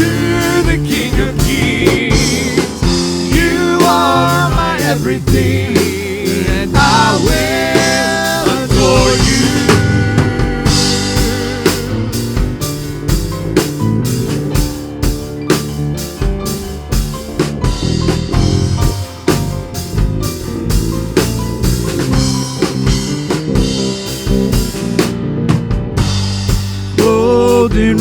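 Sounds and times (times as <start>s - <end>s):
drum kit beat: 0.0s - 28.0s
worship band playing: 0.0s - 28.0s.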